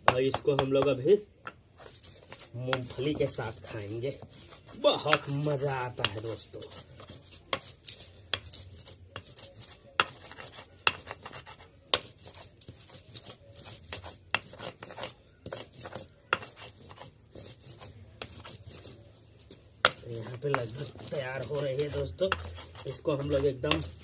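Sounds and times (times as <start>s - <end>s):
stone grinding on stone: 0.3s - 24.0s.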